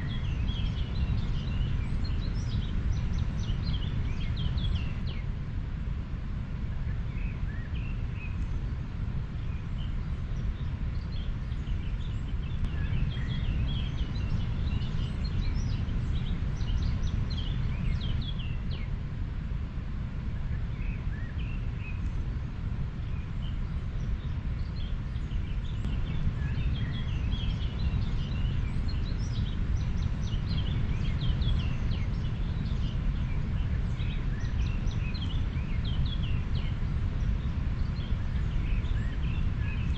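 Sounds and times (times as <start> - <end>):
small birds chirping: 0.0 - 5.4, 6.7 - 19.0, 20.2 - 39.9.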